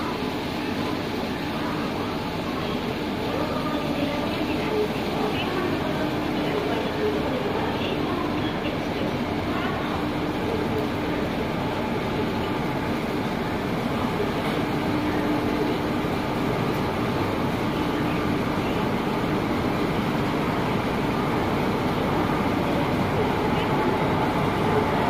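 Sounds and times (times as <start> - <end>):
electric locomotive running: 0.0 - 25.0.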